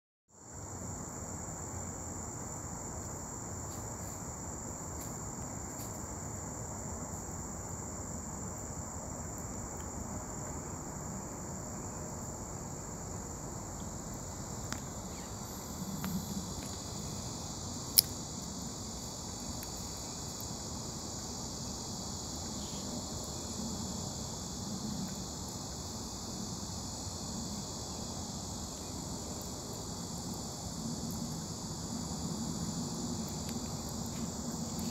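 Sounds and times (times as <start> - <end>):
insects droning: 0.3 - 34.9.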